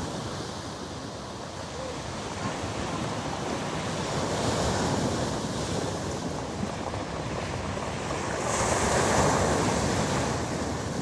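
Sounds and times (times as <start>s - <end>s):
waves breaking on stony beach: 0.0s - 11.0s.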